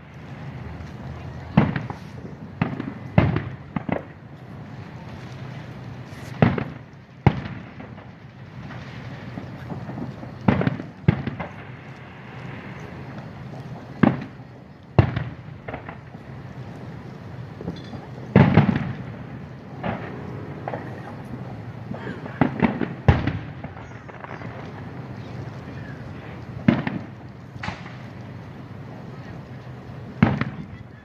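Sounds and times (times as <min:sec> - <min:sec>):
fireworks booming: 0:00.0 - 0:31.0.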